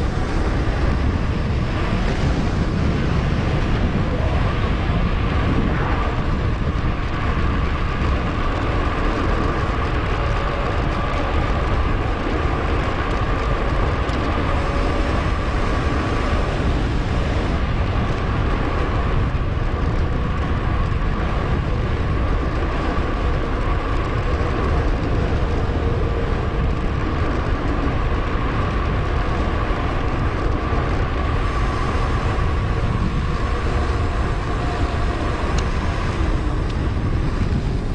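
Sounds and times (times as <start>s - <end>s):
bike tyres rolling on road: 0.0s - 37.9s
faint steady whine: 0.0s - 37.9s
wind rushing on microphone: 0.0s - 37.9s.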